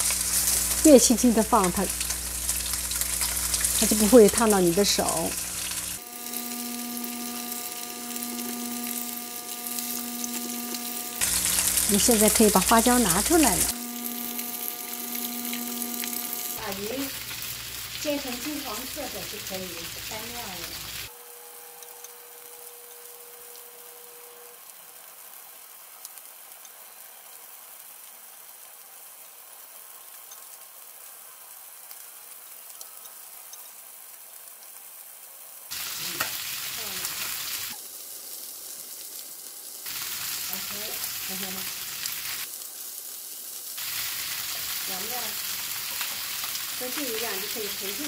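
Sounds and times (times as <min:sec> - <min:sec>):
fish sizzling in hot oil: 0:00.0 - 0:48.0.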